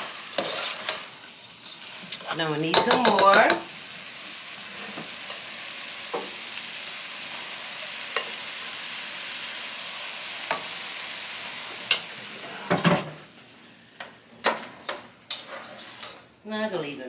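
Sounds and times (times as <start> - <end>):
fried rice sizzling in a pot: 0.0 - 16.4.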